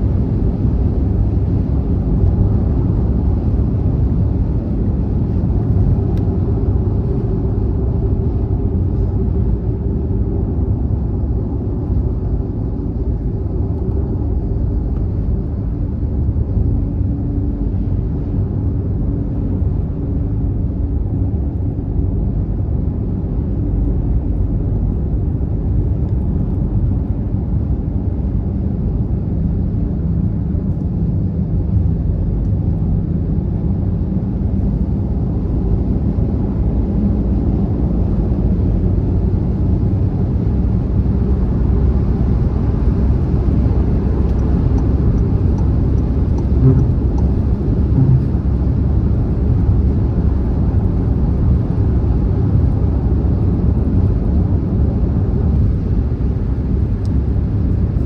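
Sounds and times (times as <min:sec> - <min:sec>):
car driving at speed: 0:00.0 - 0:58.0.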